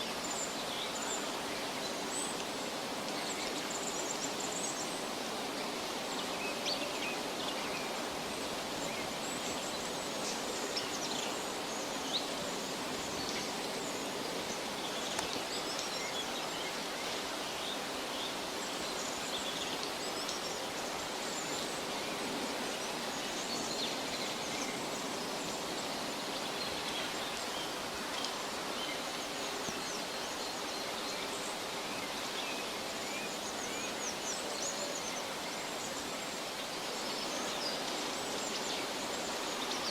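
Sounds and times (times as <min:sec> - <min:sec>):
steady forest hiss: 0:00.0 - 0:39.9.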